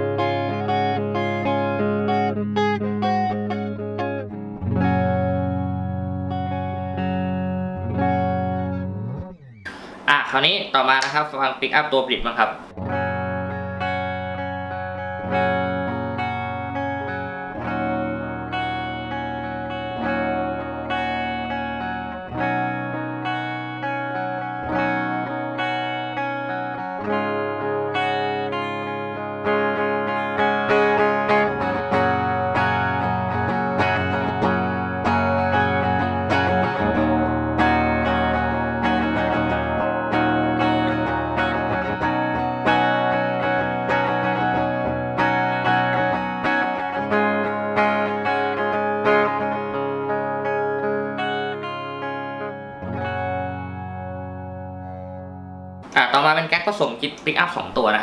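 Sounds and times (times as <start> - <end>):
electric guitar chords strummed: 0.0 - 11.3, 12.3 - 56.0.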